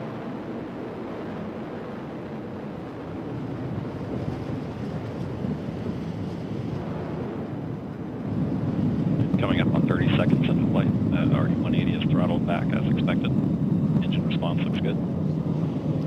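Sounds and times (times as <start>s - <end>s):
rocket engine roaring: 0.0s - 16.0s.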